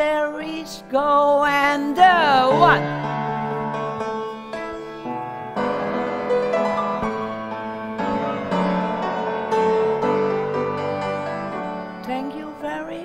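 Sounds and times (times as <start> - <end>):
piano chords and melody: 0.0 - 13.0.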